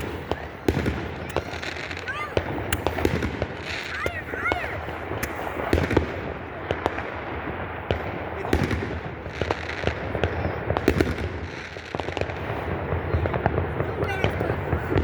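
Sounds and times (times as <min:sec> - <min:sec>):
fireworks bangs and pops: 0:00.0 - 0:15.0
rumble of explosions: 0:00.0 - 0:15.0.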